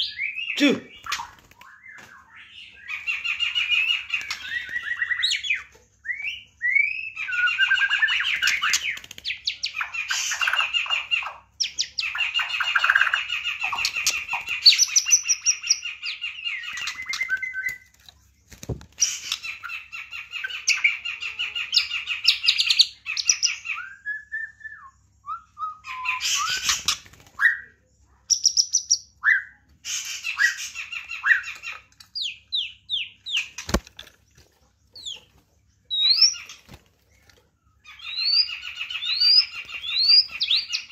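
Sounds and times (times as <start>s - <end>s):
bird singing warbles and whistles: 0.0s - 17.9s, 19.0s - 33.6s, 35.9s - 36.6s, 37.8s - 40.9s.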